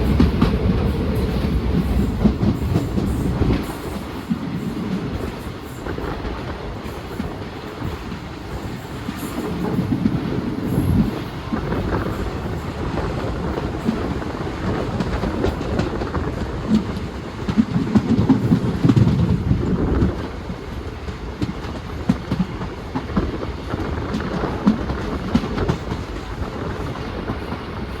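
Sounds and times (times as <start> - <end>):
train coaches rumbling: 0.0 - 28.0
train wheels clacking on rail joints: 0.0 - 28.0.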